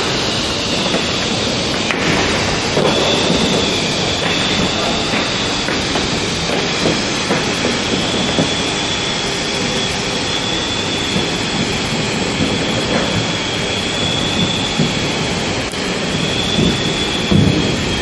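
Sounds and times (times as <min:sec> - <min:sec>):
high machine whine: 0:00.0 - 0:18.0
machine low rumble: 0:00.0 - 0:18.0.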